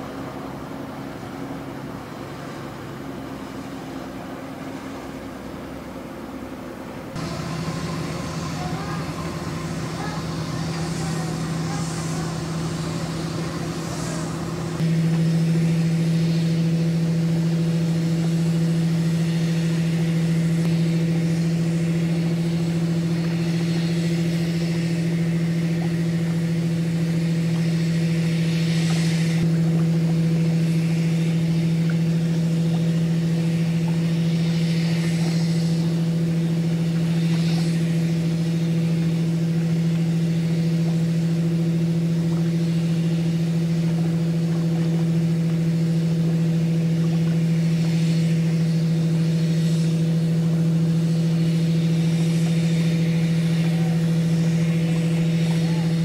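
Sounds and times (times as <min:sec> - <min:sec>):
ship engine droning: 0:00.0 - 0:56.0.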